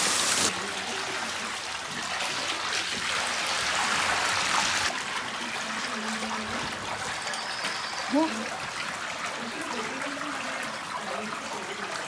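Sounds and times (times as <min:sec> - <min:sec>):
hose water splashing into pool: 0:00.0 - 0:12.0.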